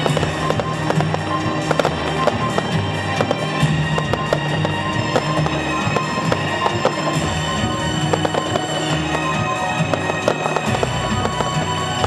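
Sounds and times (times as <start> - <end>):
fireworks popping and crackling: 0.0 - 12.0
loud show music: 0.0 - 12.0.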